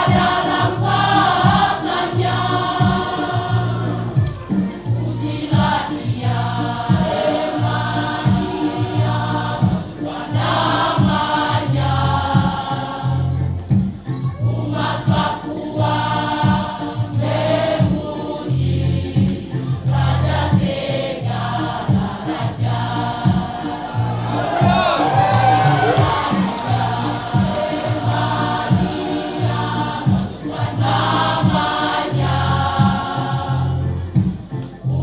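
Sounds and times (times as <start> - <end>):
instrumental accompaniment with beat: 0.0 - 35.0
youth choir singing: 0.0 - 35.0.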